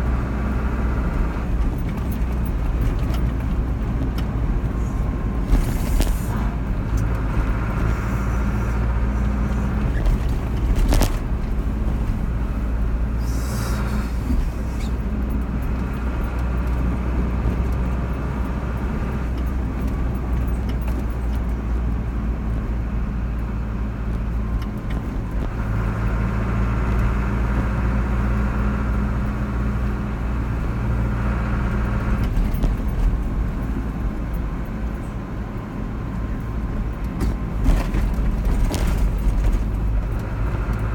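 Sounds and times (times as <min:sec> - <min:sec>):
car engine hum: 0:00.0 - 0:40.9
tyre rumble on road: 0:00.0 - 0:40.9.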